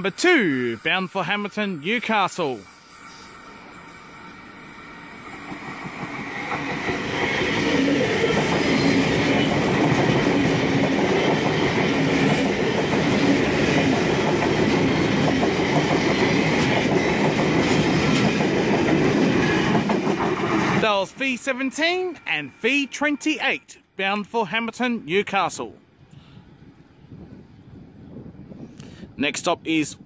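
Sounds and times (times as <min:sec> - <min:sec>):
electric train passing: 0:00.0 - 0:25.1, 0:25.8 - 0:28.8.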